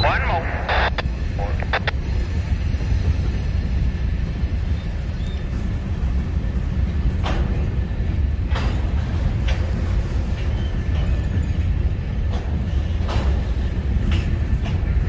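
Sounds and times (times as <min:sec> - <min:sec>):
rumble of wheels on rail: 0:00.0 - 0:15.0.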